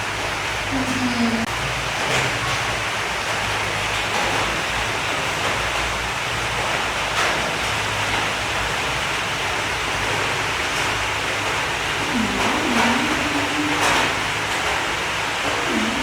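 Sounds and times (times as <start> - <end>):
steady rushing hiss: 3.0 - 16.0.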